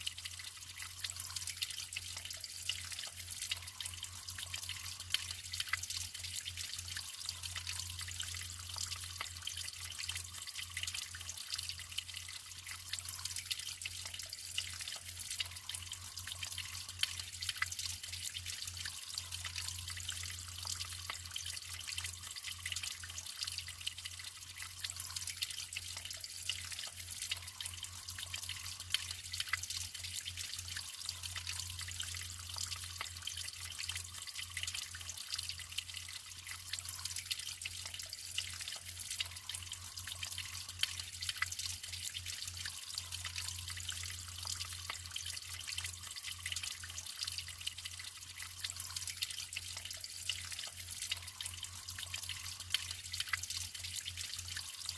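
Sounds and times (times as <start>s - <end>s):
water drips and splashes: 0.0s - 54.9s
water trickling: 0.0s - 54.9s.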